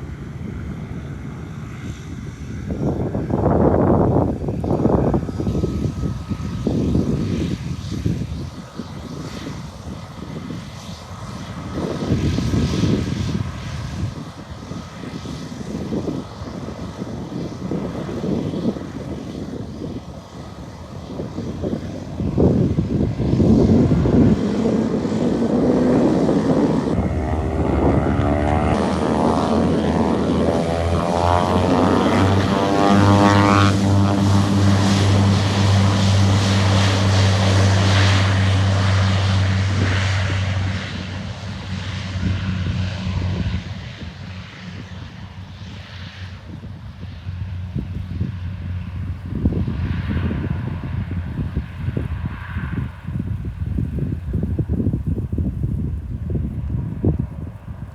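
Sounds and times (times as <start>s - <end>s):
small aircraft engine: 0.0s - 57.9s
sweeping phasing aircraft sound: 0.0s - 57.9s.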